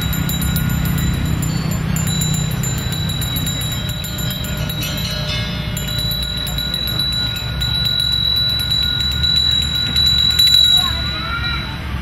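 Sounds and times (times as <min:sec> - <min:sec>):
hand bell ringing: 0:00.0 - 0:12.0
low background rumble: 0:00.0 - 0:12.0.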